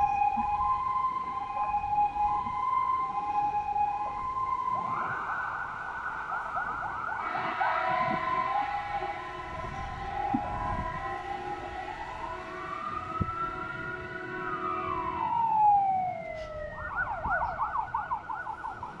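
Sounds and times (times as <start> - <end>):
steady tones: 0.0 - 17.4
fire engine siren: 0.0 - 19.0.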